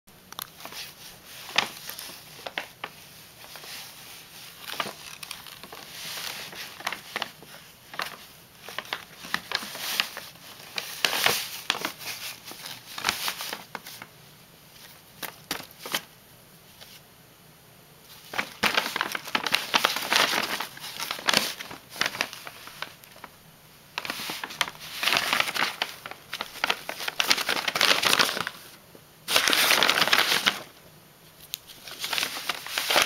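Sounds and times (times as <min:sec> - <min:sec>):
paper bag crinkling and rustling: 0:00.4 - 0:14.1, 0:14.8 - 0:16.1, 0:18.1 - 0:30.8, 0:31.4 - 0:33.0.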